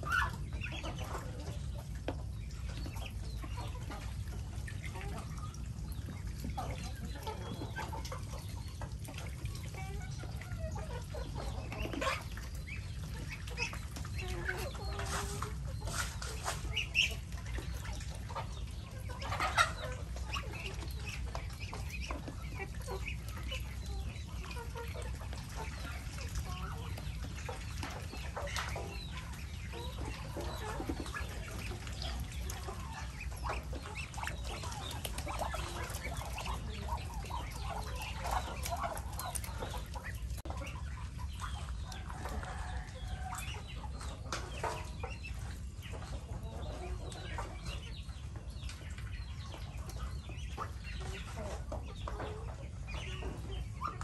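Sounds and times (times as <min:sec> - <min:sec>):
chickens and ducks calling: 0:00.0 - 0:54.0.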